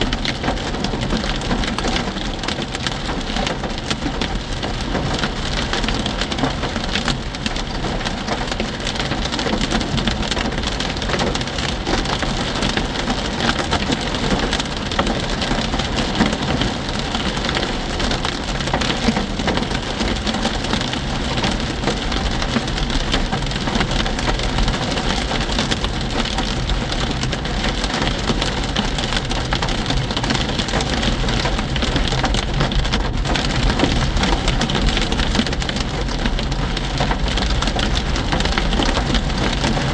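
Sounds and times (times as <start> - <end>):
hail and heavy rain clattering: 0.0 - 39.9.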